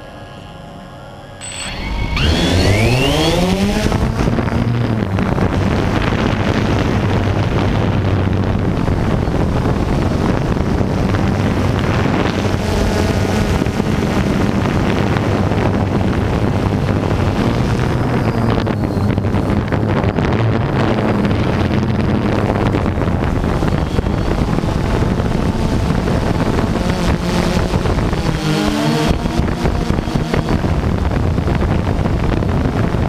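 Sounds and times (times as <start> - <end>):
drone motors whining and buzzing: 0.0 - 33.0.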